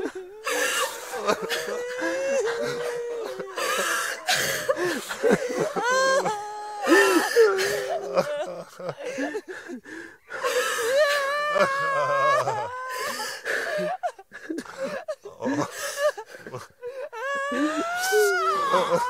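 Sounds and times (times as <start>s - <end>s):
gasping breaths: 0.0s - 8.3s, 9.0s - 11.3s, 12.3s - 19.0s
people sobbing and wailing: 0.0s - 19.0s.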